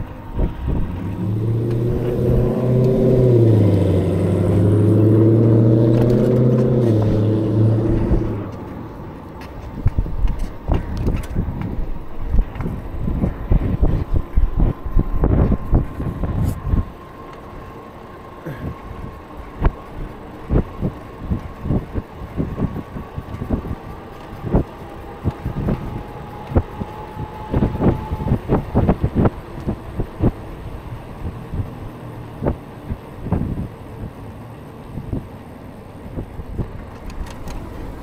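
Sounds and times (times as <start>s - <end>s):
wind buffeting microphone: 0.0s - 17.8s, 18.5s - 35.4s.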